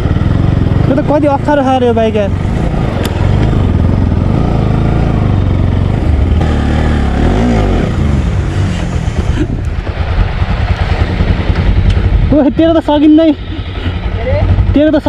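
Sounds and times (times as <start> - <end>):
motorcycle engine accelerating: 0.0 - 15.0
wind rumbling on microphone: 2.3 - 15.0.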